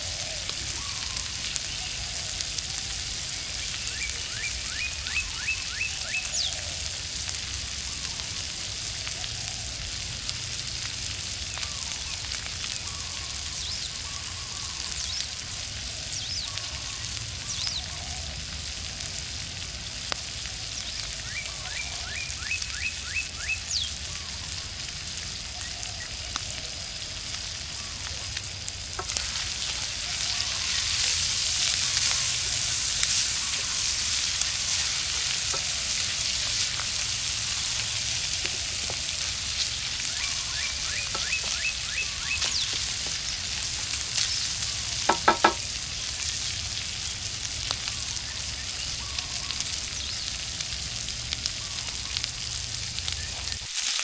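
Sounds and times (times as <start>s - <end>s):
food sizzling over campfire: 0.0s - 54.0s.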